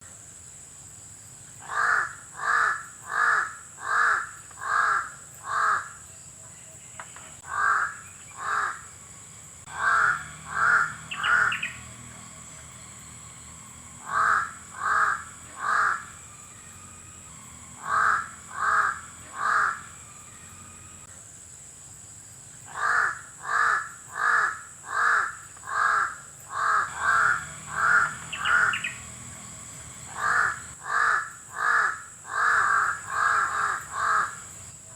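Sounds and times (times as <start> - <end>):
crow cawing: 1.6 - 6.0, 7.4 - 9.1, 9.7 - 21.0, 22.7 - 34.7.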